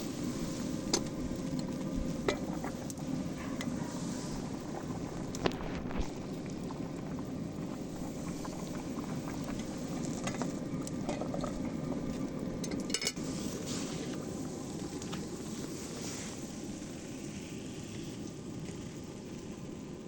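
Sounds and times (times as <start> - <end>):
food boiling in a pot: 0.0 - 20.0.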